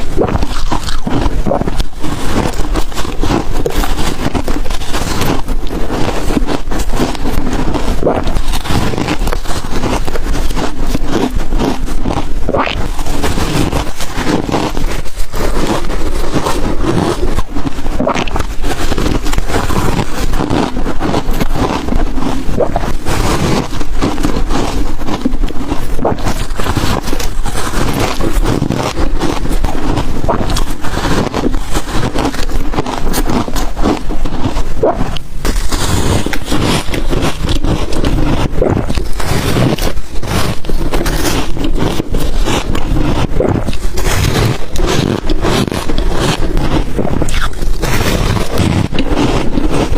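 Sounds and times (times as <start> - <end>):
ice crunching while chewed: 0.0 - 49.9.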